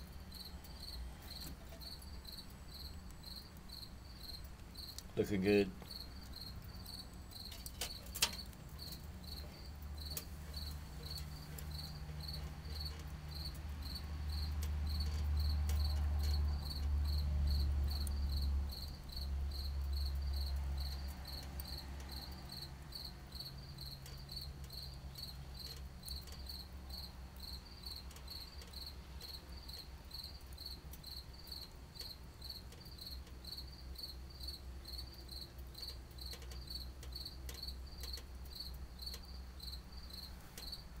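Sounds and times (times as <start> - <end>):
cricket chirping: 0.0 - 41.0.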